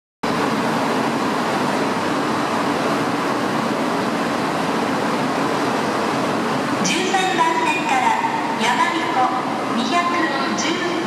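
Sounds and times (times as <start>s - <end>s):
station platform hum and hiss: 0.2s - 11.0s.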